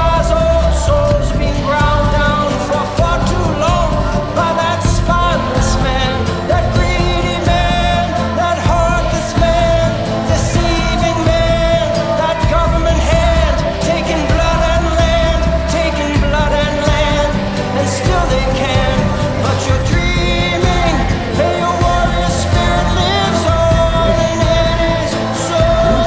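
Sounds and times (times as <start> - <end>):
steady low bass: 0.0 - 26.0.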